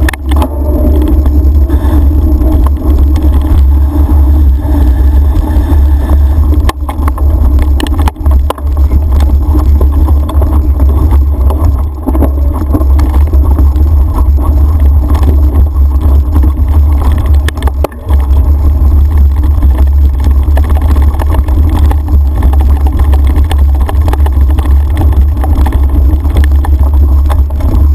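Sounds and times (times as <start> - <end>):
wind rumble on microphone: 0.0 - 27.9.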